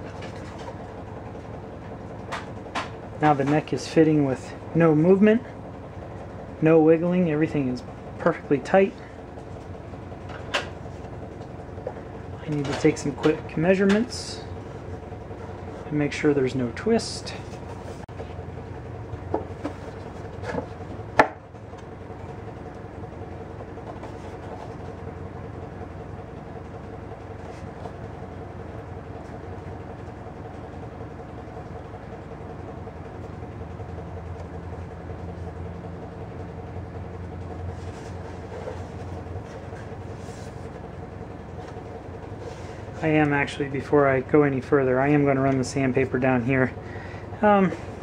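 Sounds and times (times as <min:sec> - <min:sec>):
mechanical room hum: 0:00.0 - 0:48.0.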